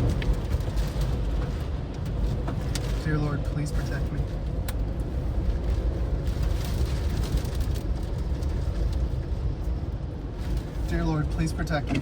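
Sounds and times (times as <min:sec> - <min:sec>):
strong storm wind rumbling: 0:00.0 - 0:11.8.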